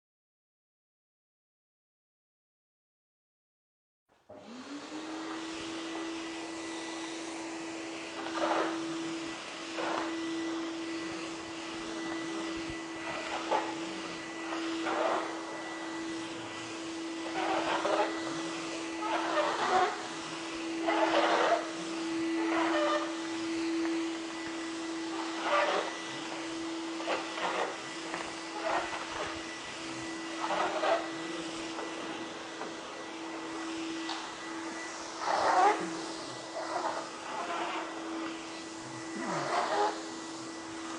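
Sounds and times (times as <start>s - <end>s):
vacuum cleaner running: 4.2s - 40.9s.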